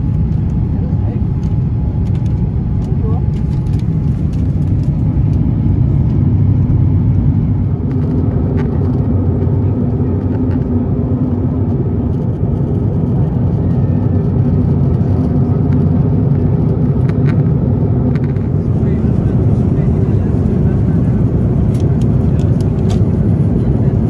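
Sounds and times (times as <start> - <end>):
aircraft engines drone: 0.0 - 24.0
airflow over fuselage: 0.0 - 24.0.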